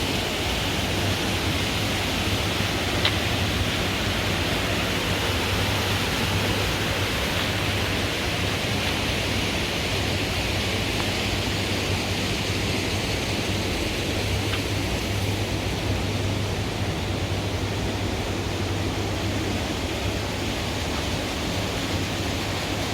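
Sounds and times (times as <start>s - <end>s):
water rushing: 0.0s - 22.9s.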